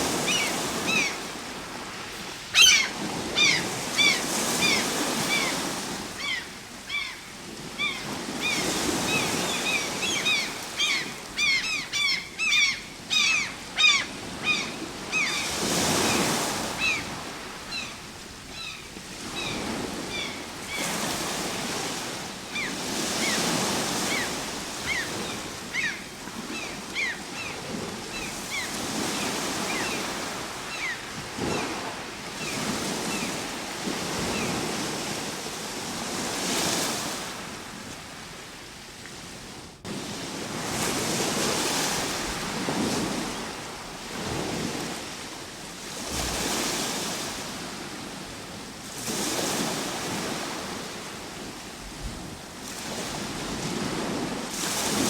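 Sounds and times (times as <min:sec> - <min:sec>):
ocean waves breaking: 0:00.0 - 0:38.5, 0:39.2 - 0:55.0.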